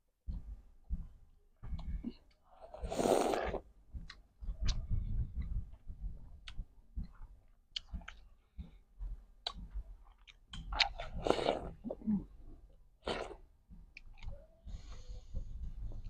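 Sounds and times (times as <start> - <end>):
people biting and chewing watermelon: 1.7 - 16.0.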